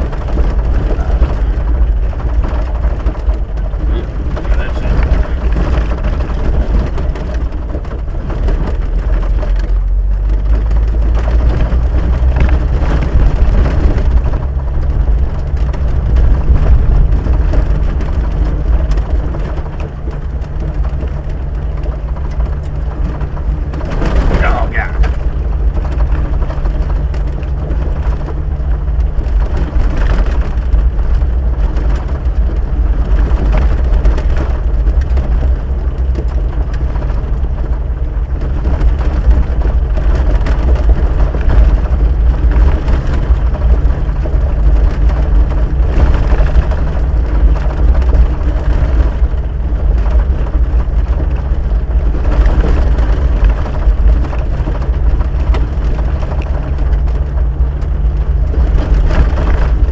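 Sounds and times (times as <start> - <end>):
low engine note: 0.0 - 59.9
tyres rumbling on rough road: 0.0 - 59.9.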